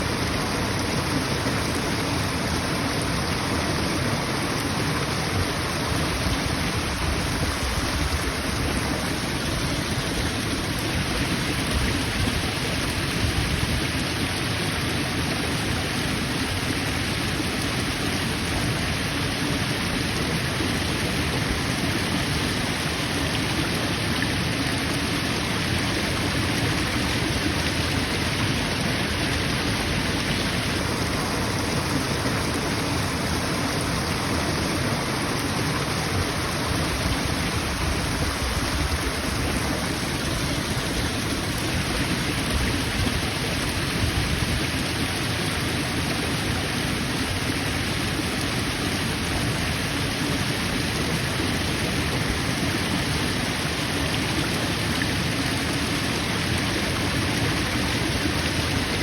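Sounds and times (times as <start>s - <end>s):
waterfall rushing: 0.0s - 13.3s, 14.0s - 59.0s.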